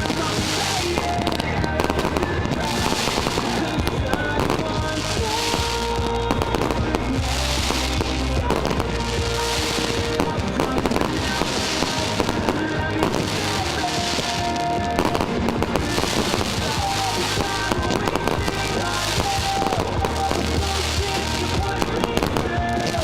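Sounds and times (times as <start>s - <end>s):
fireworks banging and cracking: 0.0s - 23.0s
fireworks crackling hiss: 0.0s - 23.0s
song with held notes: 0.0s - 23.0s.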